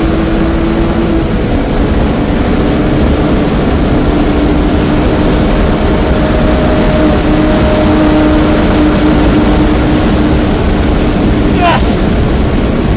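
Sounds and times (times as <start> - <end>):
car engine at high revs: 0.0 - 12.9
wind and road noise: 0.0 - 12.9.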